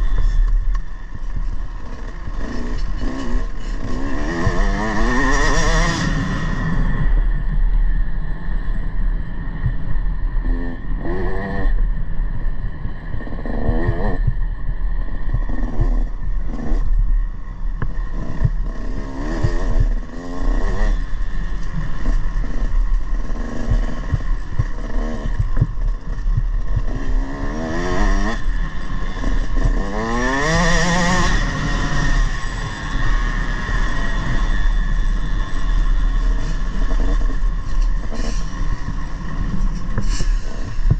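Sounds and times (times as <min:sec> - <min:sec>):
motocross bike engine revving: 0:00.0 - 0:07.2, 0:13.2 - 0:14.4, 0:15.1 - 0:17.0, 0:17.8 - 0:40.9.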